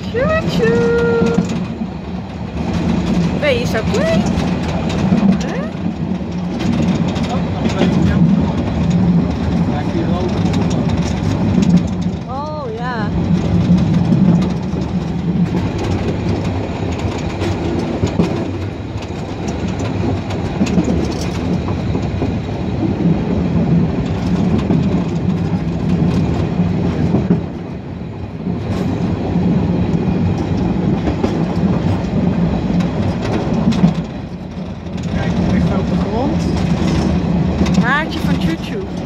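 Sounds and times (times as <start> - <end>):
train carriages rumbling: 0.0 - 39.0
wheels clicking over rails: 0.0 - 39.0.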